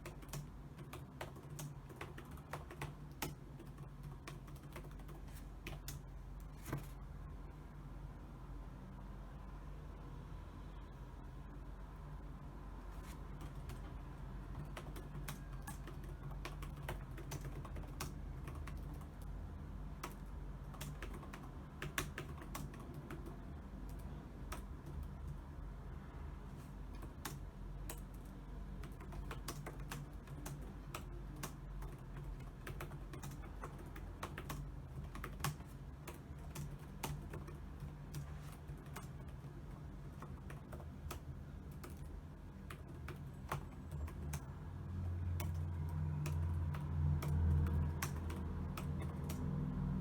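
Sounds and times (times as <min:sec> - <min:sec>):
keyboard typing: 0:00.0 - 0:07.0, 0:13.0 - 0:25.5, 0:26.6 - 0:44.6, 0:45.3 - 0:49.6
faint steady hum: 0:00.0 - 0:50.0.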